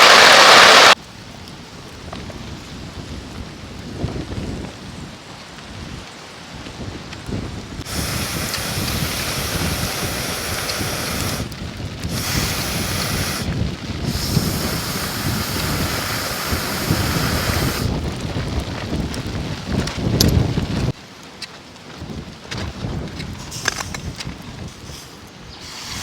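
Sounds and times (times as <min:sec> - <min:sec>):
wind buffeting microphone: 0:00.0 - 0:21.0, 0:21.9 - 0:26.0
rain and wind hiss: 0:00.0 - 0:26.0.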